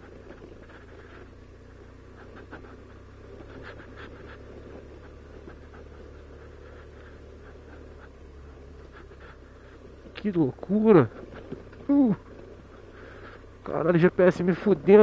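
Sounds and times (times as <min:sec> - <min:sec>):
motorcycle engine hum: 0:00.0 - 0:15.0.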